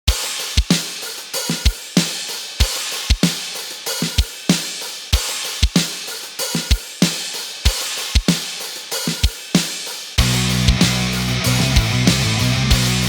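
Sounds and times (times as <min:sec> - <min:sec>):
background music with drum beat: 0:00.0 - 0:13.0.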